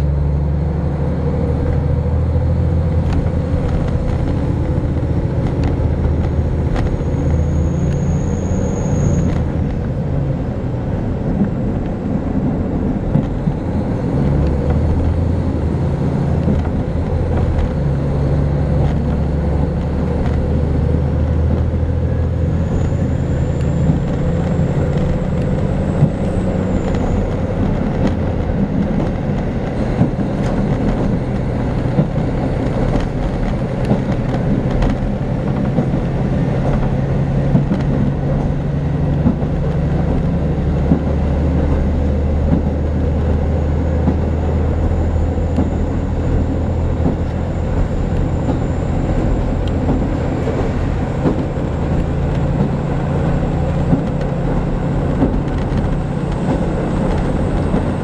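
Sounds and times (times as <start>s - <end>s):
railcar engine drone: 0.0s - 58.0s
wheels rumbling on rails: 0.0s - 58.0s.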